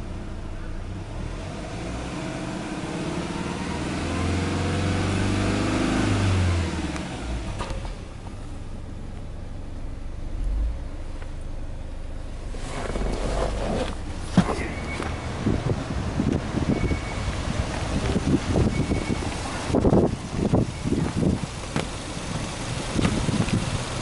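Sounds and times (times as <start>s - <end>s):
car engine revving and idling: 0.0s - 24.0s.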